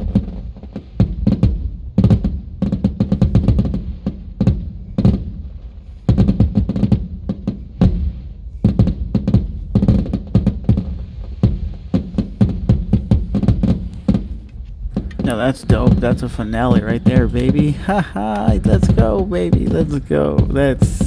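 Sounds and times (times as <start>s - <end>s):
fireworks booms: 0.0s - 21.0s.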